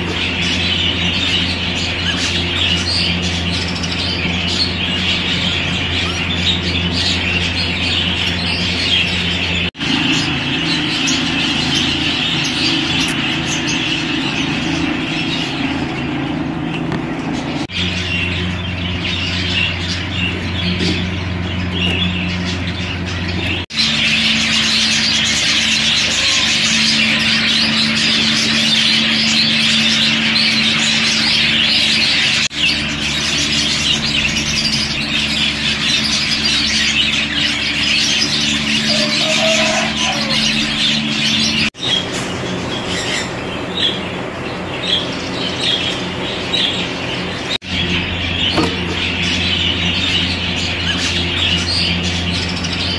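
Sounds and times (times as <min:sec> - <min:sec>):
budgerigars chattering: 0:00.0 - 0:52.9
steady low hum: 0:00.0 - 0:52.9.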